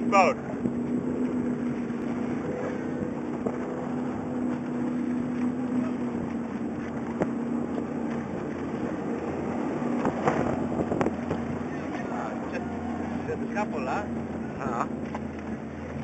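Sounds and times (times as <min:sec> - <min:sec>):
powerboat engines droning: 0:00.0 - 0:16.0.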